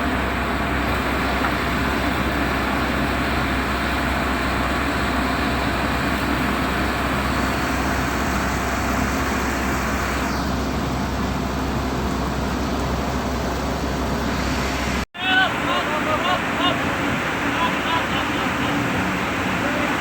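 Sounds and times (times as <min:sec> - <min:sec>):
ship engine drone: 0:00.0 - 0:20.0.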